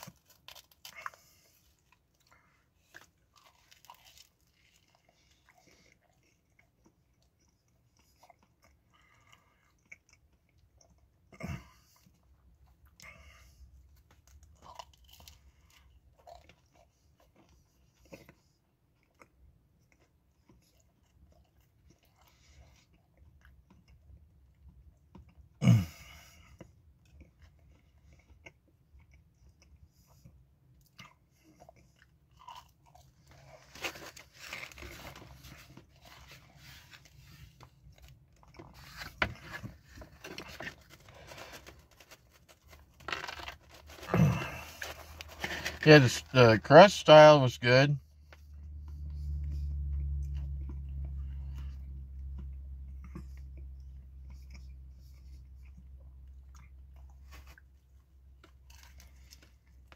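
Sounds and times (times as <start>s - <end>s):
person chewing and crunching pizza: 0.0s - 59.9s.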